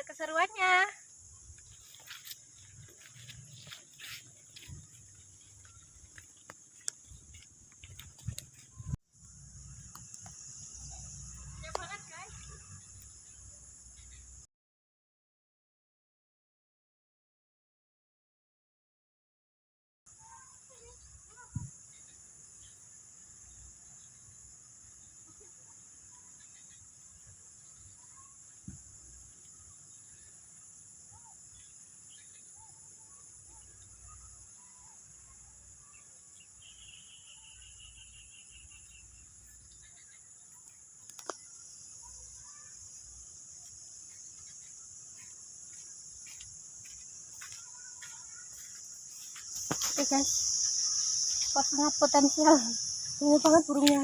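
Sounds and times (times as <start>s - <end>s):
high-pitched insect chorus: 0.0s - 14.5s, 20.1s - 54.0s.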